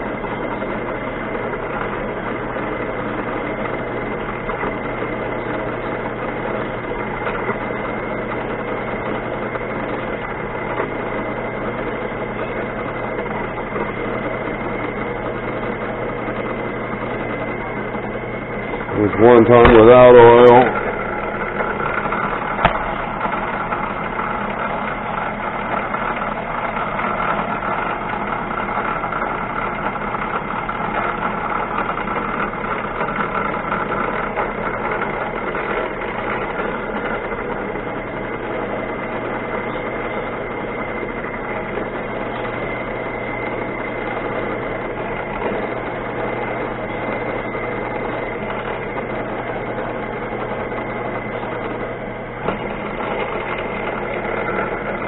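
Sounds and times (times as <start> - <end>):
drill bit cutting metal: 0.0 - 55.0
machine tool whine: 0.0 - 55.0.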